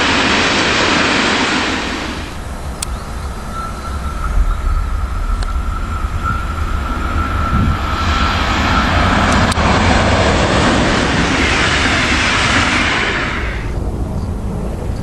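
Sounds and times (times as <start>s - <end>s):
electric locomotive whine: 0.0s - 15.0s
train wheels rushing on rails: 0.0s - 15.0s.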